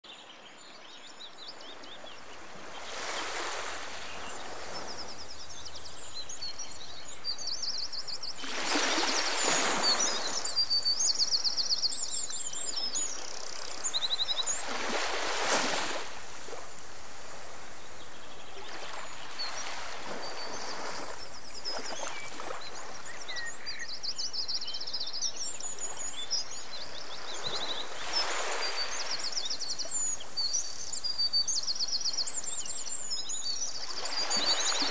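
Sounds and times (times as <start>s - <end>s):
songbirds chirping: 0.0s - 34.9s
steady outdoor hiss: 0.1s - 34.9s.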